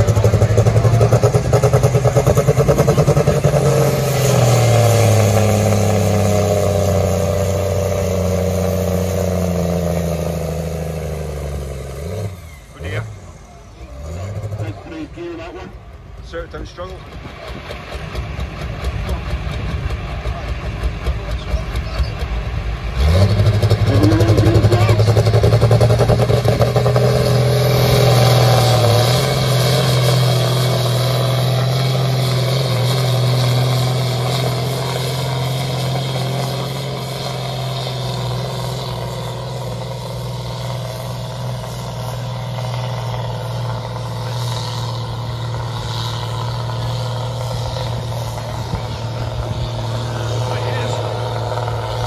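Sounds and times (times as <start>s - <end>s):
tractor diesel engine at full throttle: 0.0s - 52.0s.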